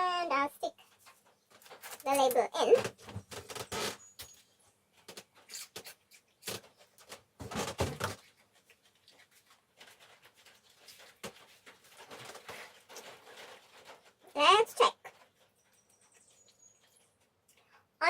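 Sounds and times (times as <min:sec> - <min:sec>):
rustling and scraping of potting soil: 0:00.0 - 0:18.0.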